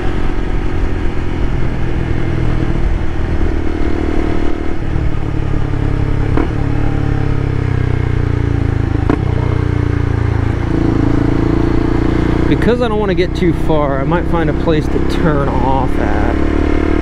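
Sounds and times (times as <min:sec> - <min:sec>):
motorcycle engine cruising: 0:00.0 - 0:17.0
road and wind rush: 0:00.0 - 0:17.0.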